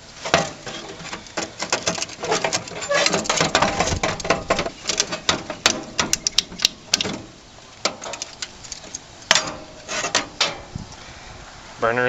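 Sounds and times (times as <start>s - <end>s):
rapid metallic clicks and knocks: 0.2s - 10.7s.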